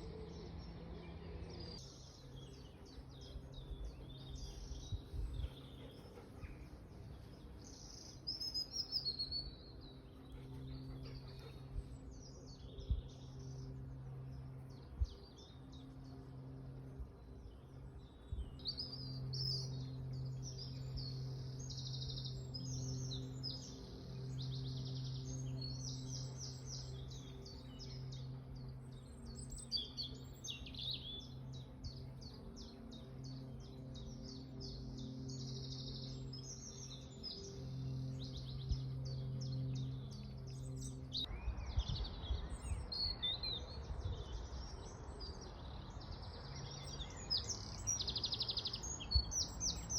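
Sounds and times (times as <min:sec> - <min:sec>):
steady low hum: 0:00.0 - 0:42.9
songbirds chirping and trilling: 0:00.0 - 0:49.9.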